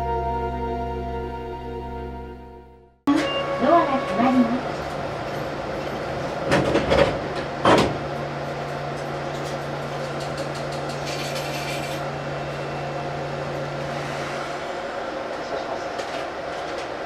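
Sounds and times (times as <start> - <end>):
tram running hum: 0.0 - 17.0.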